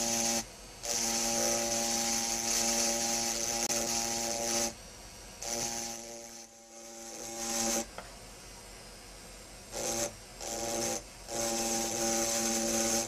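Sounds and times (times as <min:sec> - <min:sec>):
engraving drill grinding glass: 0:00.0 - 0:04.8, 0:05.4 - 0:07.9, 0:09.7 - 0:13.0.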